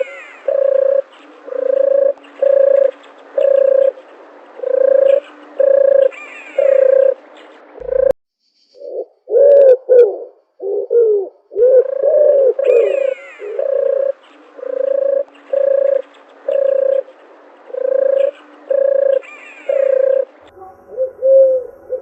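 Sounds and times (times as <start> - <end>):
dove cooing: 0.0 - 8.1, 8.8 - 22.0.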